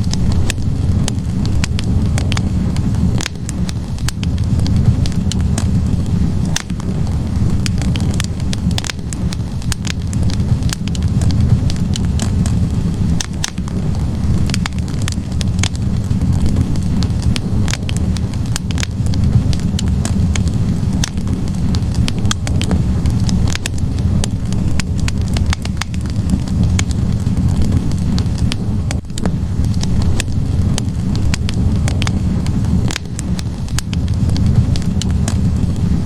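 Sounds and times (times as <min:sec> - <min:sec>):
logs crackling and popping: 0:00.0 - 0:36.0
low rush of flame: 0:00.0 - 0:36.0.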